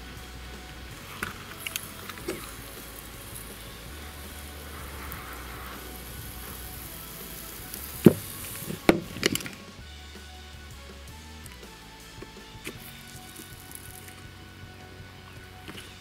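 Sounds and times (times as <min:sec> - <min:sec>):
hot metal ball sizzling: 0:00.0 - 0:16.0.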